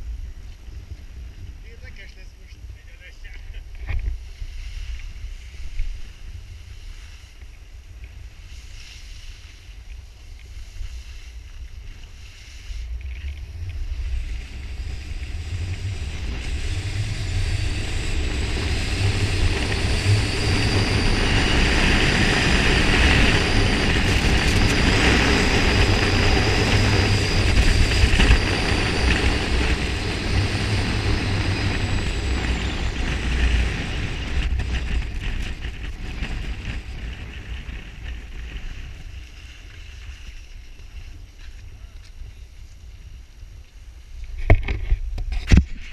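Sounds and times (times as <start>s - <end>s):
wind buffeting microphone: 0.0s - 43.6s
skis sliding on packed snow: 1.6s - 44.0s.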